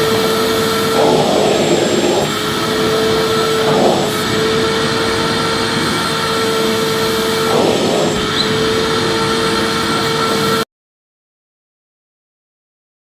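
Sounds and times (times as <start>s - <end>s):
vacuum cleaner motor running: 0.0s - 10.6s.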